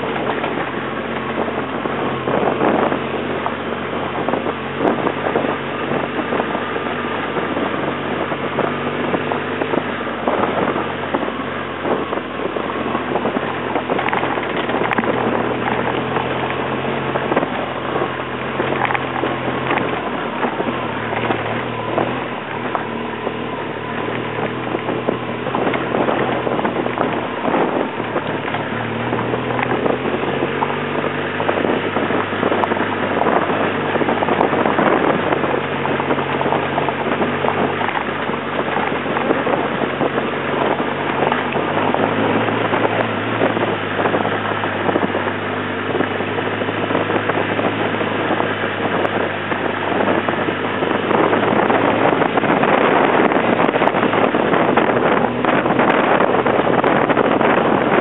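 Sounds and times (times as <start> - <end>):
knocks and rattles of bike: 0.0 - 58.0
motorcycle engine running: 0.0 - 58.0
wind buffeting microphone: 0.0 - 58.0.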